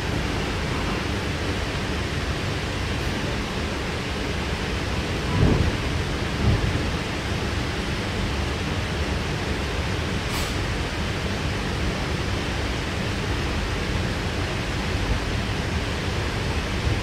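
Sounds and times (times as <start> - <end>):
train carriage rumble and hiss: 0.0 - 17.0.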